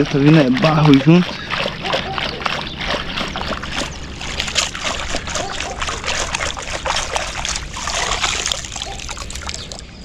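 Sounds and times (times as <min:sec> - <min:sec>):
water and sand splashing: 0:00.0 - 0:10.0.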